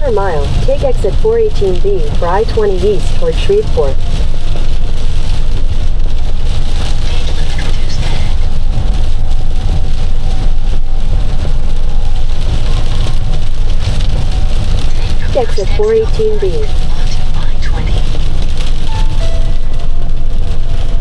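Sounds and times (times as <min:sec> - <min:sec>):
engine and road noise drone: 0:00.0 - 0:21.0
rain and tyre spray hiss: 0:00.0 - 0:21.0.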